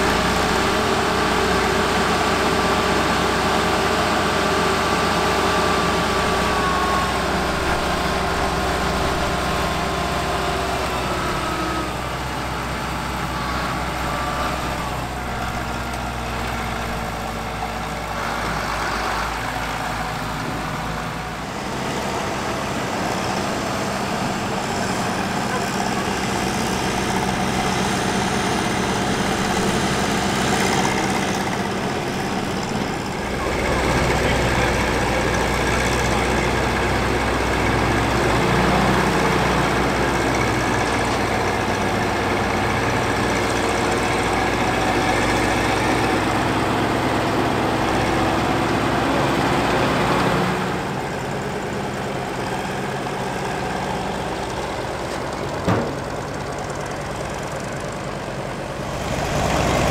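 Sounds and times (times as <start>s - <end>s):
heavy machine engine rumble: 0.0s - 59.9s.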